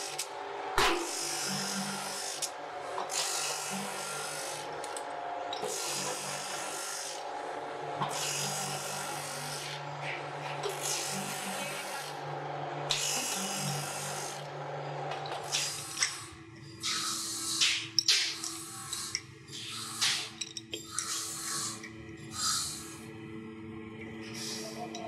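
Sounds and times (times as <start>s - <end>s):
abrasive wheel motor hum: 0.0s - 25.0s.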